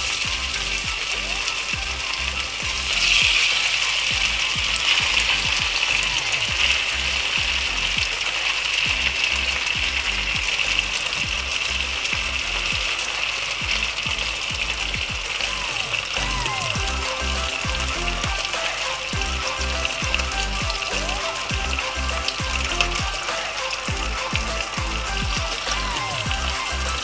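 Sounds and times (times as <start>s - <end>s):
meat sizzling in oil: 0.0s - 27.0s
rhythmic mechanical clicking: 0.0s - 27.0s.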